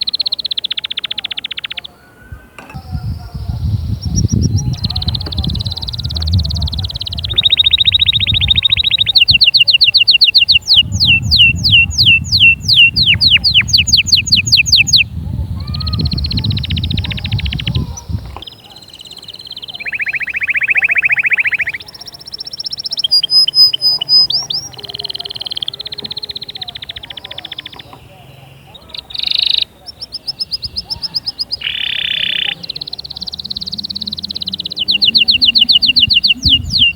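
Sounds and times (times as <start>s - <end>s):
canary singing: 0.0s - 36.9s.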